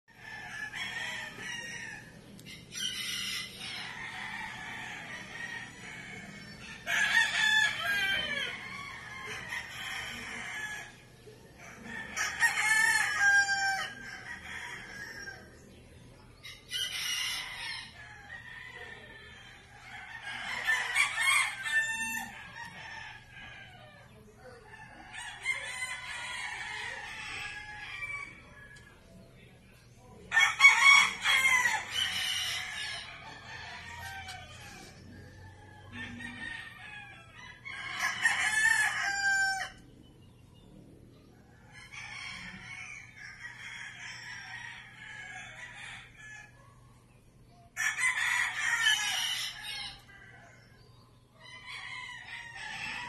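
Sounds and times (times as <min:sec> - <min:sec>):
roosters crowing: 0:00.0 - 0:53.0
chickens clucking: 0:00.1 - 0:53.0.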